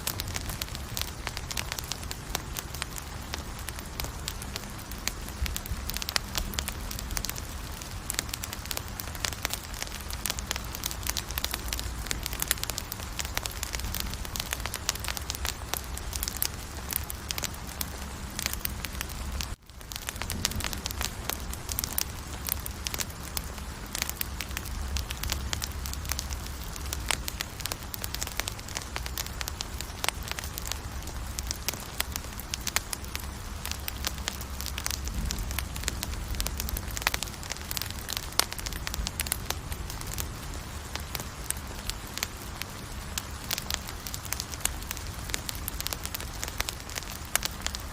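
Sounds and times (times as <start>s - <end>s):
campfire crackling and popping: 0.0s - 47.9s
low steady rumble: 0.0s - 47.9s.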